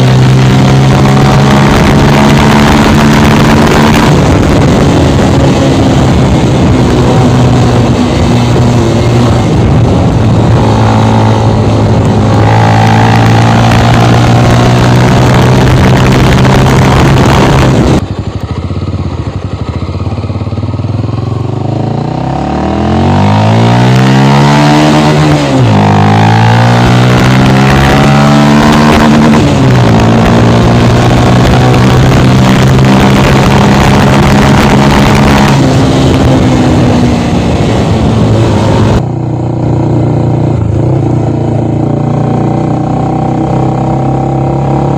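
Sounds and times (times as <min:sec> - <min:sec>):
wind noise on microphone: 0:00.0 - 0:18.4, 0:20.6 - 0:44.9
motorcycle engine revving: 0:00.0 - 0:44.9.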